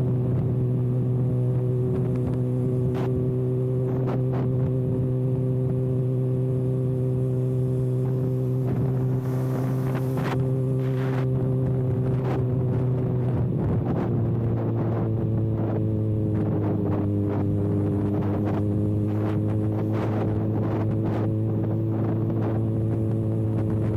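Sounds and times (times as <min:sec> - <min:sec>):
motorcycle engine drone: 0:00.0 - 0:23.9
wind noise on microphone: 0:00.0 - 0:23.9.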